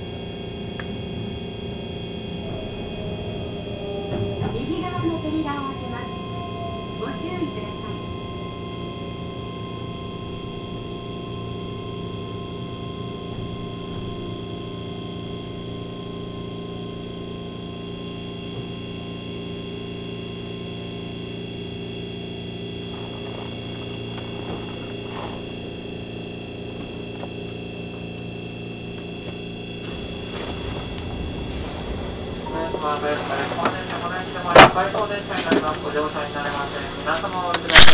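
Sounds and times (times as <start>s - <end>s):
train electrical hum: 0.0s - 37.9s.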